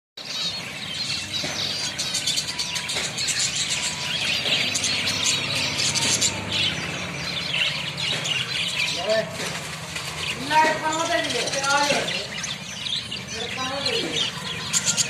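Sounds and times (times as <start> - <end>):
finches chirping: 0.2 - 15.0.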